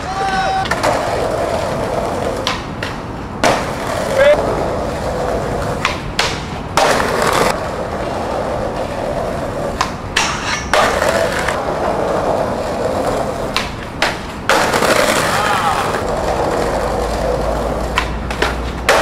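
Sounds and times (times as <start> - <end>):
skateboard clacks and knocks: 0.0 - 19.0
skateboard wheels rolling on concrete: 0.0 - 19.0.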